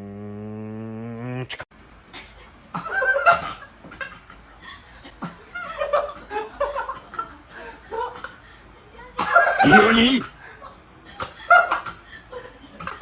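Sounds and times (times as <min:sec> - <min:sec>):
people laughing: 0:02.2 - 0:13.0.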